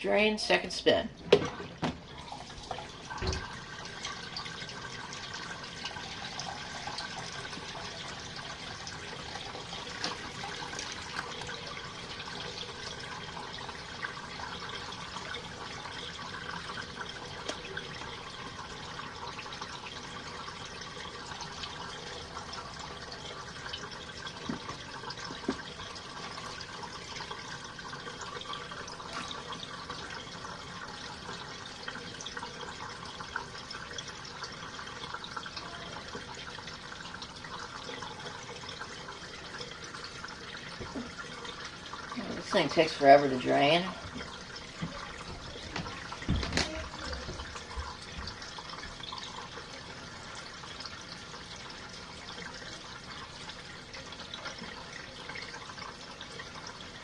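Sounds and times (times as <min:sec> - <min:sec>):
water draining: 0:00.0 - 0:57.0.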